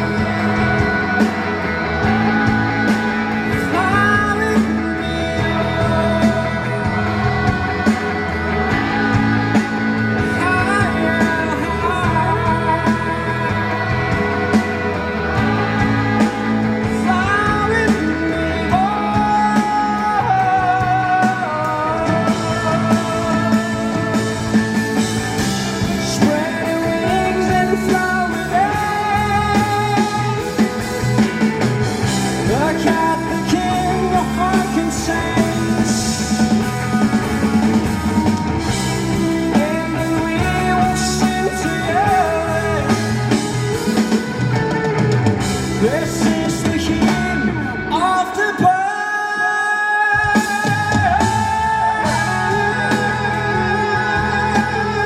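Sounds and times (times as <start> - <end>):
live rock band: 0.0 - 55.0
person singing: 0.0 - 55.0.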